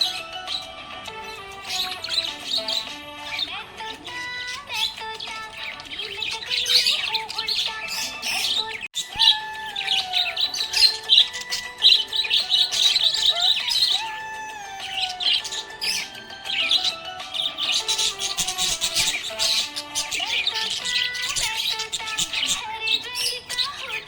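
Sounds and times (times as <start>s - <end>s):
budgerigar chirping and warbling: 0.0s - 24.0s.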